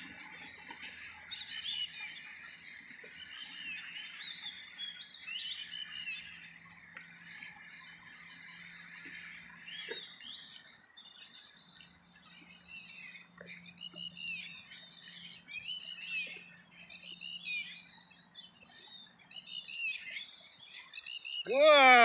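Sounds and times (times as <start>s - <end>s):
birds singing and chirping: 0.0s - 21.5s.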